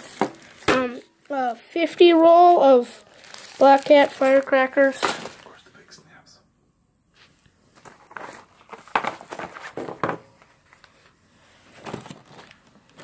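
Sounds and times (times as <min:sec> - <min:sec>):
rustling of fireworks packages: 0:00.0 - 0:05.9, 0:07.4 - 0:13.0.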